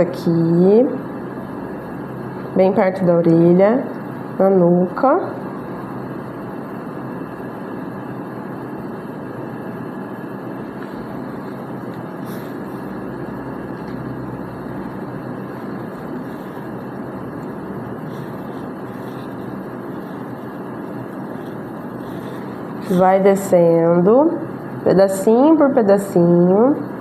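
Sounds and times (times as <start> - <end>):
constant rushing background noise: 0.8 - 24.9.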